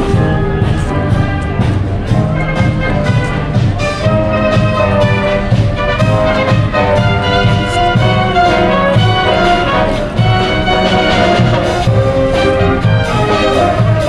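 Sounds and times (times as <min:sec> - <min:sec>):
orchestral music with brass: 0:00.0 - 0:14.0.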